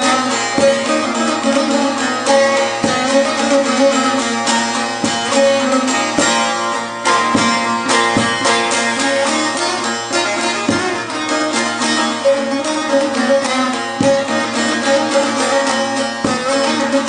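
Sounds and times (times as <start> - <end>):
plucked long-necked lute melody: 0.0 - 17.0.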